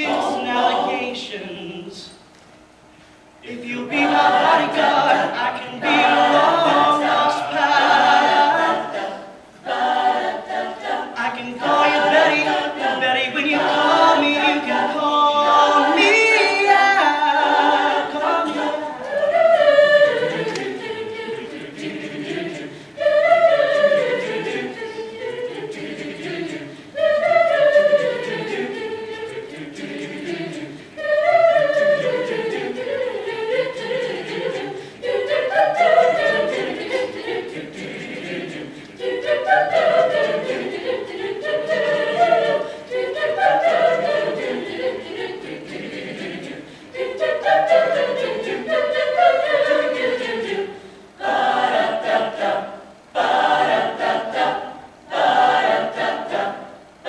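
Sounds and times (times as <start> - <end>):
a cappella group singing in harmony: 0.0 - 2.3, 2.9 - 57.0.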